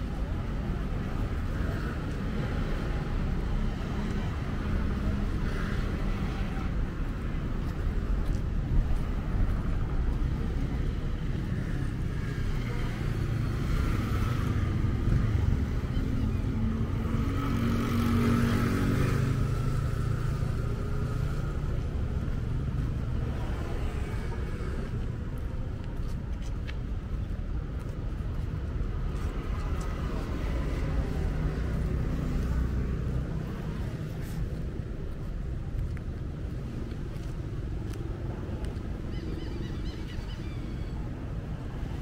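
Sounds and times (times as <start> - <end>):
cars and motorbikes passing: 0.0 - 42.0
steady traffic rumble: 0.0 - 42.0.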